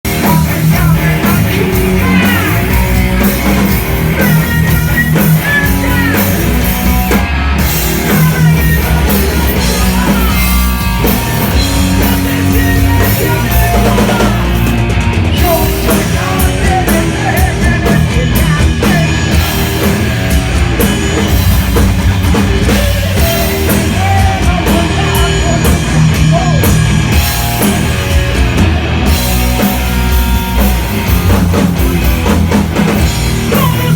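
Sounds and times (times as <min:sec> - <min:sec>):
heavy metal band playing: 0:00.0 - 0:33.9.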